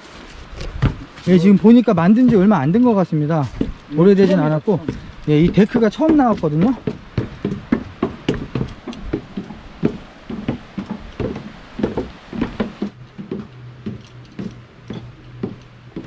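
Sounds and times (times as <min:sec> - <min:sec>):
footsteps on wooden stairs: 0:00.0 - 0:16.0.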